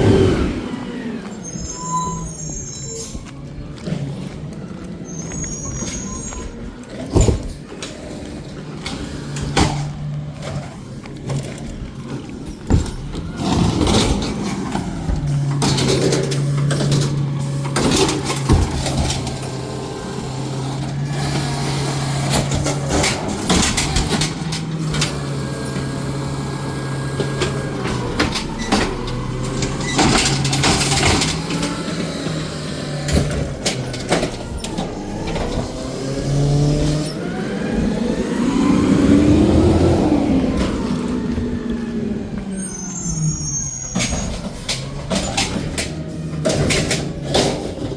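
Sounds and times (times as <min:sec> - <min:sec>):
garbage truck engine running: 0:00.0 - 0:47.9
clanks and knocks: 0:05.3 - 0:37.2, 0:40.5 - 0:47.9.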